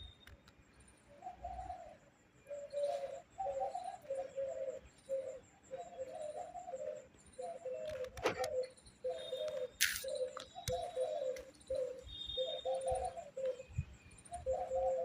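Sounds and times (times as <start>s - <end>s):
pigeons cooing: 1.2s - 15.0s.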